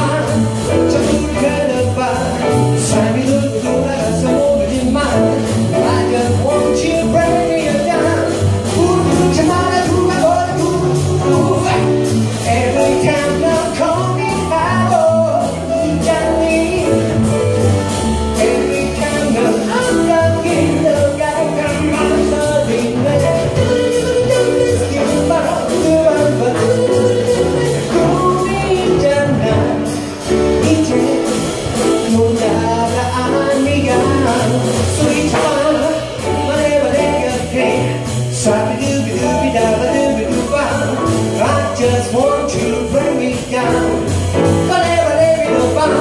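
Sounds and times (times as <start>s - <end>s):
jazz band playing: 0.0s - 46.0s
man singing into a microphone: 0.0s - 46.0s.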